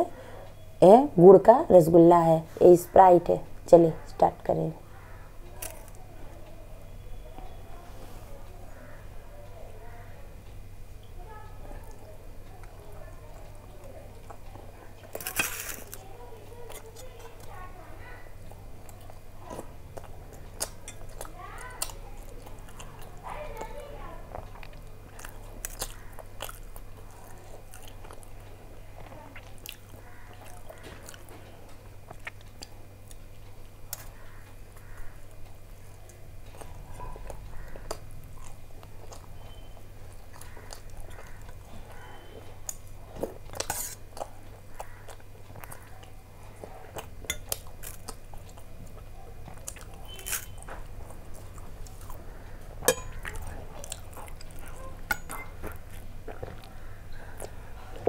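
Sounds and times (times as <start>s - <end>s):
chewing flatbread: 11.3s - 58.0s.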